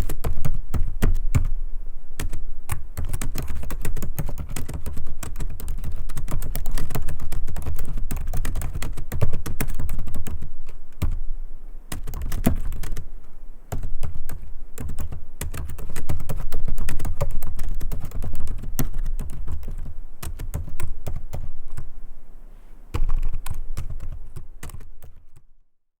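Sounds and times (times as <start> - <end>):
laptop keyboard typing: 0.0 - 1.6, 2.2 - 11.2, 11.9 - 13.1, 13.7 - 21.8, 22.9 - 25.5.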